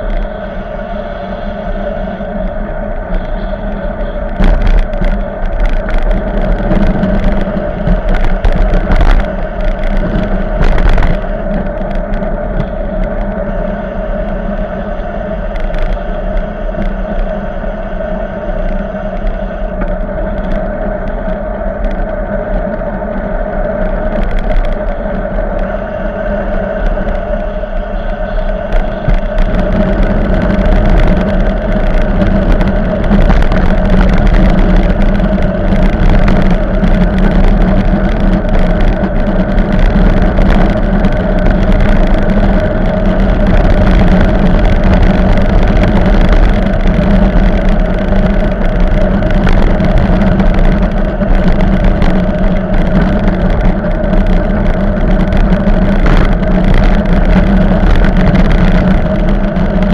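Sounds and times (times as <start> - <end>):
low droning hum: 0.0 - 59.9
rumbling road noise: 0.0 - 59.9
wind buffeting microphone: 0.0 - 59.9.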